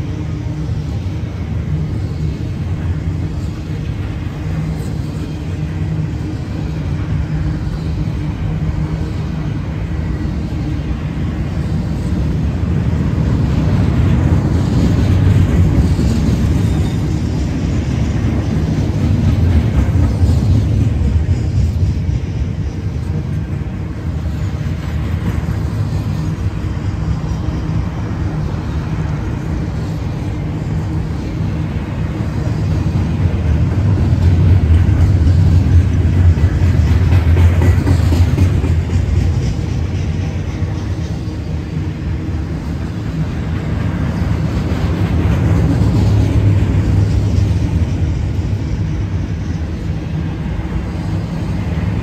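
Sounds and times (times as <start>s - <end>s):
freight train wheels on rail: 0.0s - 52.0s.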